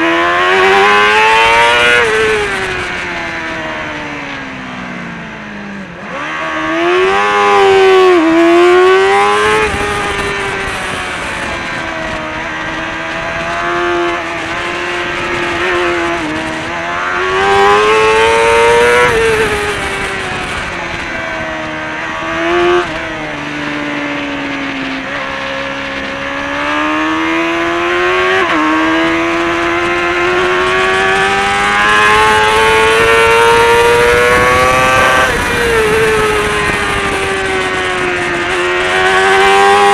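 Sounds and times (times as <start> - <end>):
motorcycle engine at racing pace: 0.0 - 39.9
wind rush: 6.2 - 39.9.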